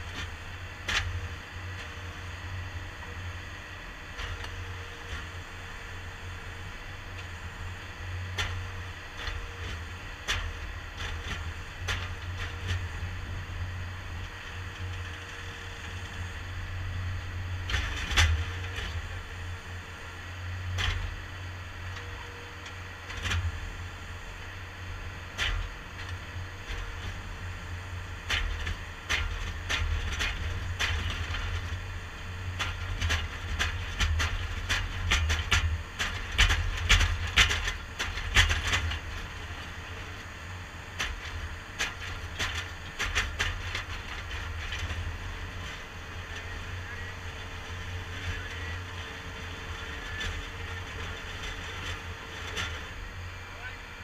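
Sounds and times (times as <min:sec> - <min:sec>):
loader engine rumbling: 0:00.0 - 0:54.0.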